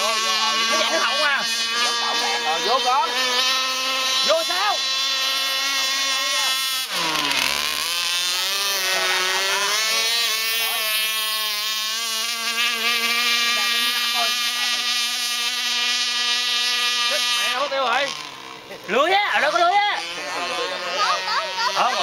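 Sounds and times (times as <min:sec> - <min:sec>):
speedboat motor high-pitched whine: 0:00.0 - 0:22.0.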